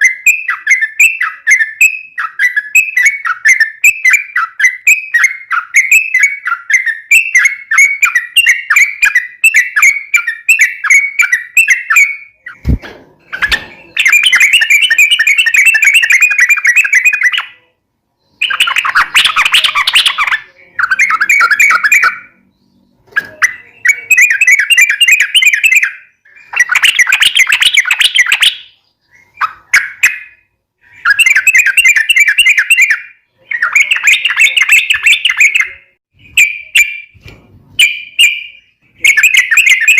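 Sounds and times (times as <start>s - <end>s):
bird chattering song: 0.0s - 37.2s, 37.8s - 39.9s.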